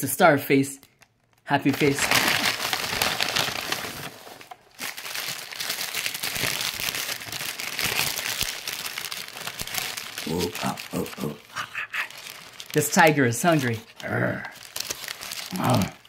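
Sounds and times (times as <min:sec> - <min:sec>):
paper wrapper crumpling: 0:00.8 - 0:16.0.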